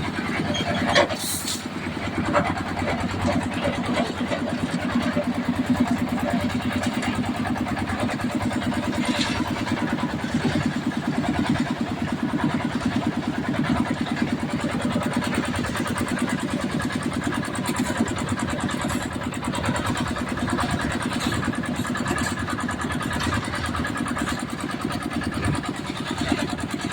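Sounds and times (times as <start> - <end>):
concrete mixer engine running: 0.0 - 26.9.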